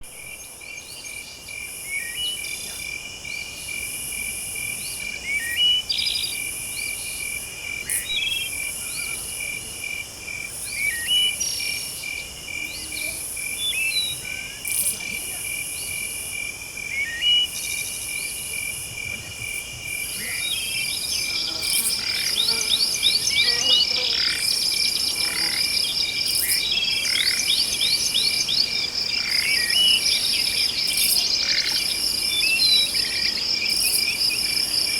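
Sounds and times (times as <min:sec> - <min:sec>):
insects chirping in pulsing trill: 0:00.1 - 0:34.9.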